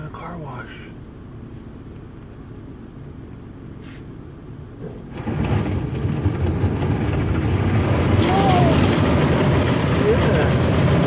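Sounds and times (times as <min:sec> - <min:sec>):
automatic car wash from inside car: 0:00.0 - 0:11.0.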